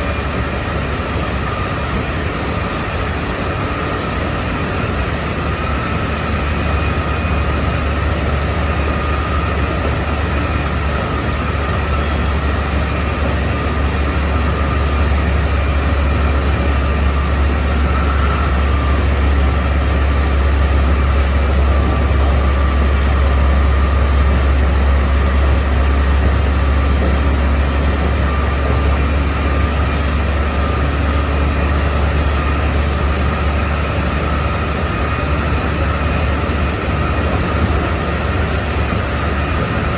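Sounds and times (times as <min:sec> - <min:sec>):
electric train motor whine: 0:00.0 - 0:39.9
wheels rumbling on rail: 0:00.0 - 0:39.9.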